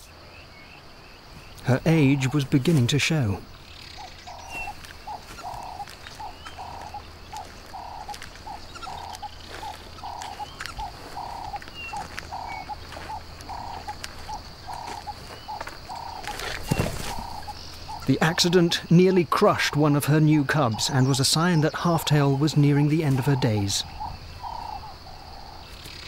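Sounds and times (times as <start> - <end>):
frogs calling: 0.0 - 26.0
high insect drone: 0.0 - 26.0.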